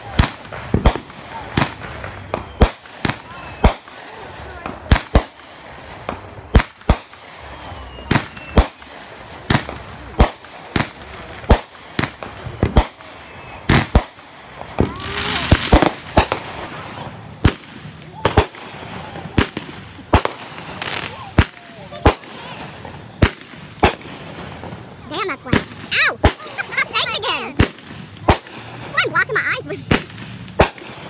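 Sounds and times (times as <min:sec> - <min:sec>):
fireworks bangs and crackle: 0:00.0 - 0:31.0.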